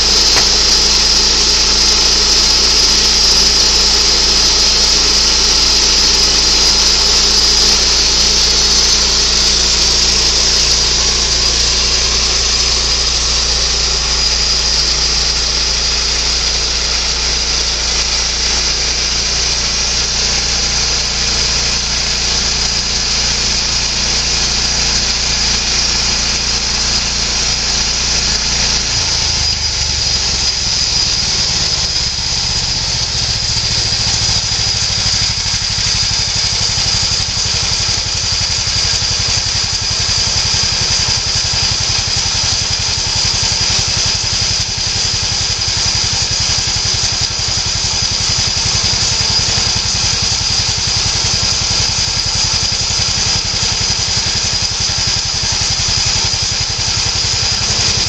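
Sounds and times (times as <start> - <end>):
gas engine running: 0.0 - 58.0
steady high whine: 0.0 - 58.0.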